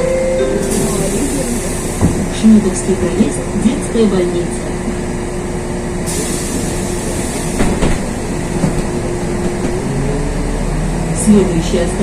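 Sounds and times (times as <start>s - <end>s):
bus engine idling hum: 0.0s - 12.0s
deep engine rumble: 0.0s - 12.0s.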